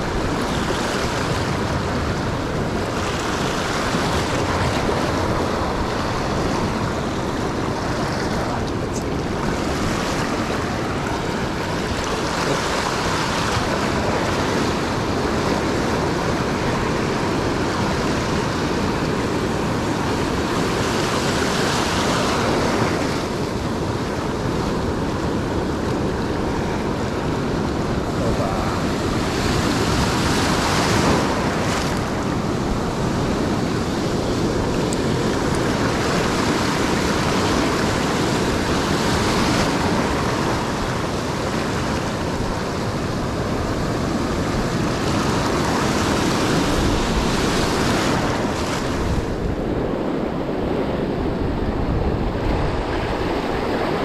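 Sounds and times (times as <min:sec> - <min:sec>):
surf washing over rocks: 0:00.0 - 0:54.0
wind buffeting microphone: 0:00.0 - 0:54.0.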